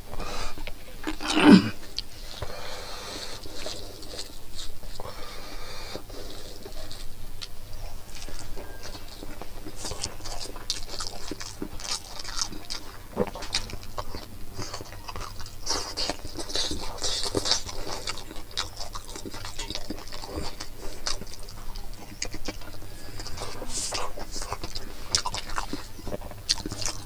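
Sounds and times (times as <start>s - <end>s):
moist chewing and lip smacks: 0.1s - 27.0s
crunchy bites of greens: 0.2s - 27.0s
fingers squishing rice: 1.1s - 27.0s.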